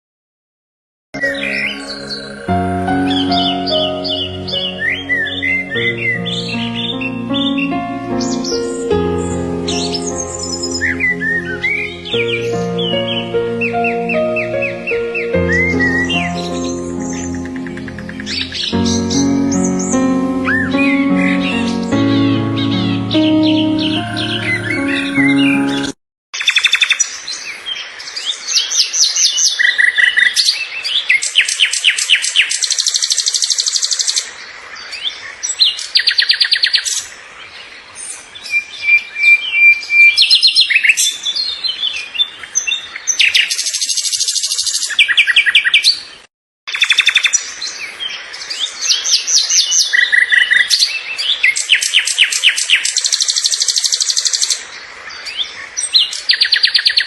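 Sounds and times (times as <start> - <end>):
songbirds singing and chirping: 1.2 - 57.0.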